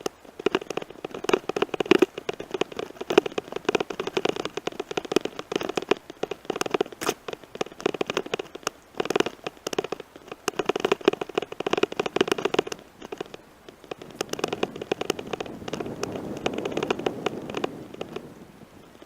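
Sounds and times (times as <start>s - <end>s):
bicycle rattling over gravel: 0.0s - 19.0s.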